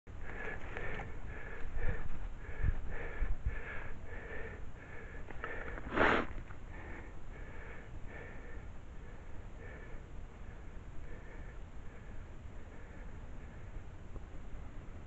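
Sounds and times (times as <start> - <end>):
loud breathy sniff: 0.2 - 13.7.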